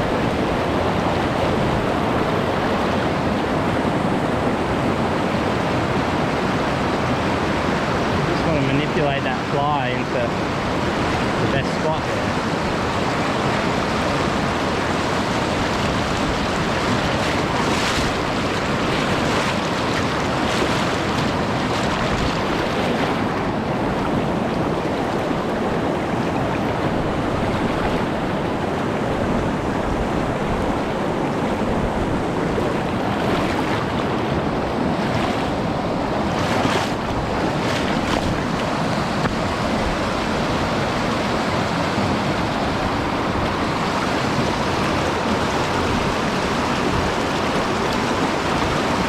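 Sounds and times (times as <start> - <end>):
stream rushing over rocks: 0.0 - 49.0.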